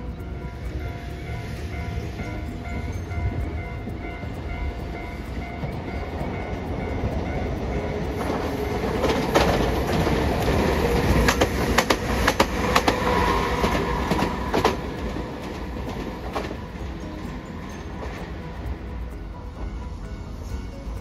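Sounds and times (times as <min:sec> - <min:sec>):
tram hum: 0:00.0 - 0:21.0
tram wheels clacking over rail joints: 0:00.0 - 0:21.0.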